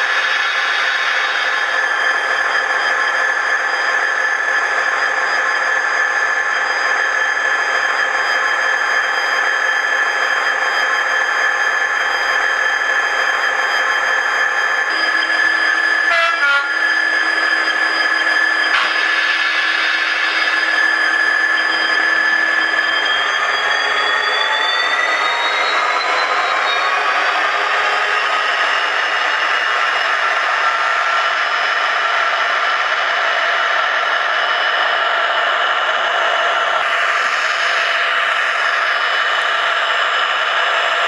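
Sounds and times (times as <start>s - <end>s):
model locomotive diesel engine sound: 0.0s - 41.0s.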